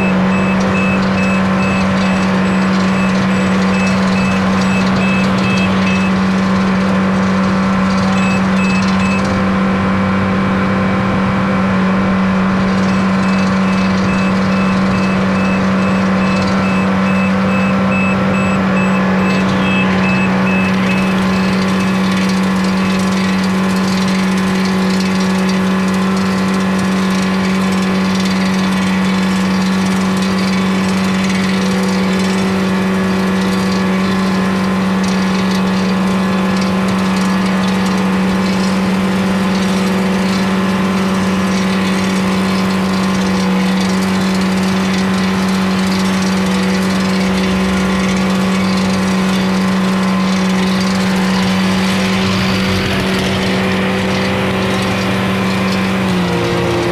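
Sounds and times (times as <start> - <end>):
heavy machinery engine droning: 0.0 - 56.9.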